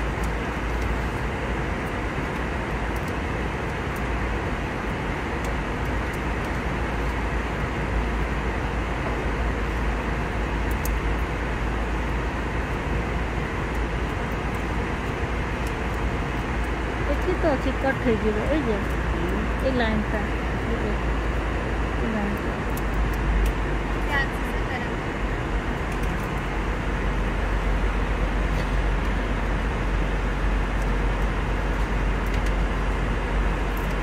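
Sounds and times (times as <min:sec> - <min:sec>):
airliner cabin engine rush: 0:00.0 - 0:34.0.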